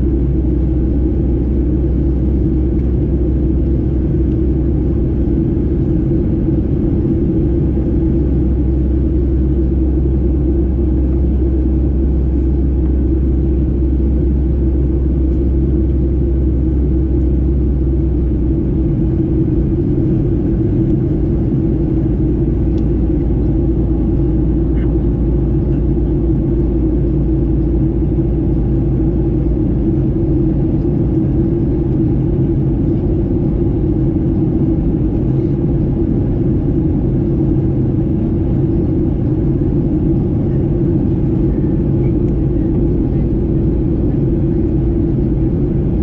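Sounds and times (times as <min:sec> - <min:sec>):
airliner cabin drone: 0:00.0 - 0:46.0.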